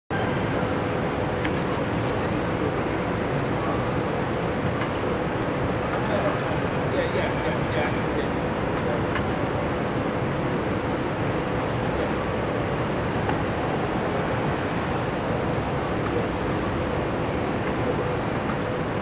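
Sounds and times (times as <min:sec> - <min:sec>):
faint steady hum: 0:00.1 - 0:19.0
road noise: 0:00.1 - 0:19.0.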